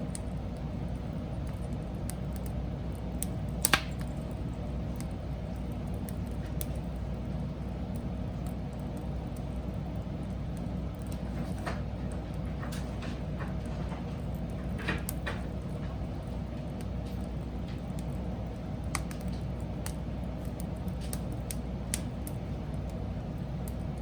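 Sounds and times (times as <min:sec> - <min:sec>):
burning wood crackling and popping: 0:00.0 - 0:24.0
fire low rumble: 0:00.0 - 0:24.0.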